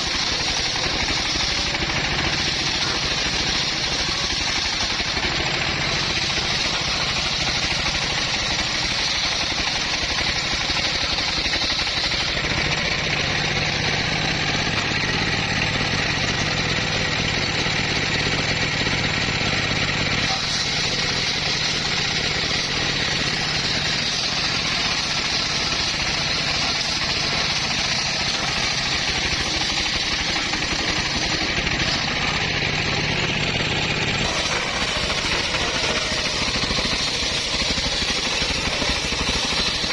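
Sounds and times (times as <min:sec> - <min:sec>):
hissing sawing noise: 0:00.0 - 0:16.7, 0:17.3 - 0:39.9
bandsaw motor drone: 0:00.0 - 0:39.9.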